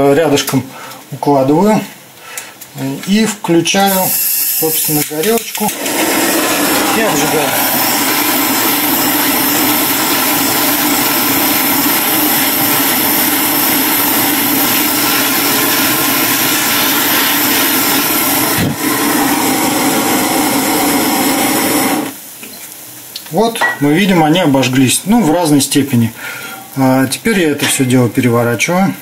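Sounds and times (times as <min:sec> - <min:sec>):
gas torch flame hissing: 0:02.1 - 0:27.8.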